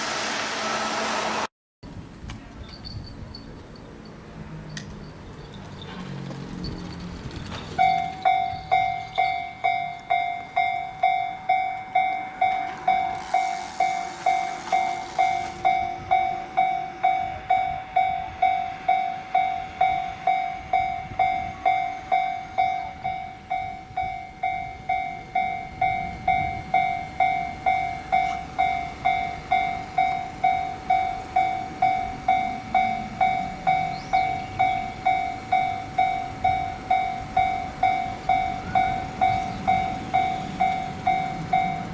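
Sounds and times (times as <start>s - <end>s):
level crossing warning bell: 5.0s - 41.9s.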